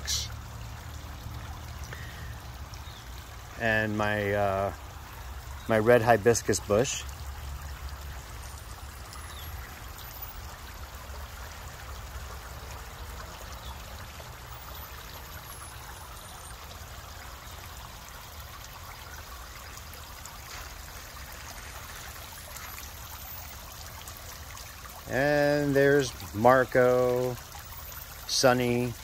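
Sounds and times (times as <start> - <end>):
fountain water trickling and splashing: 0.0 - 29.0.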